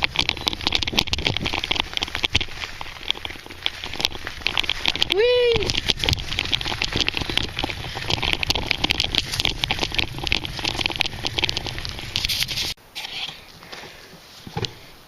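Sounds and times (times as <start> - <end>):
bicycle rattling over dirt trail: 0.0 - 12.8.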